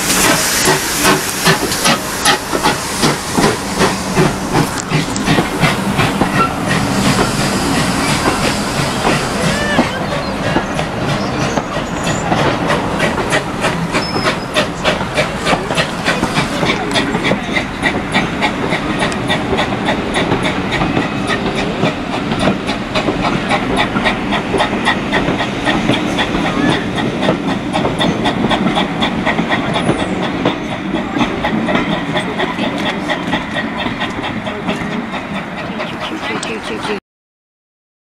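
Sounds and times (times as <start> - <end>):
train wheels on track: 0.0 - 37.0.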